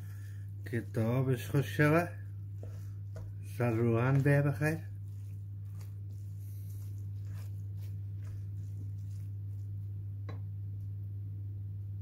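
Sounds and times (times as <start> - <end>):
wooden spoon scraping metal pot: 0.0 - 9.7
steady low hum: 0.0 - 12.0.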